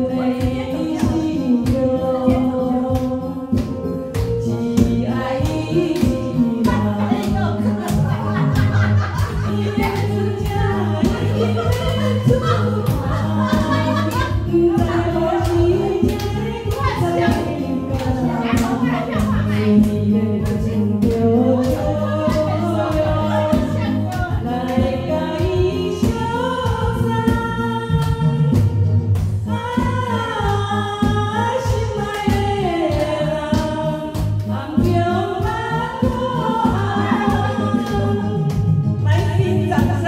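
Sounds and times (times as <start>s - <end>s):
backing track with beat and bass: 0.0s - 40.0s
woman singing into microphone: 0.0s - 40.0s.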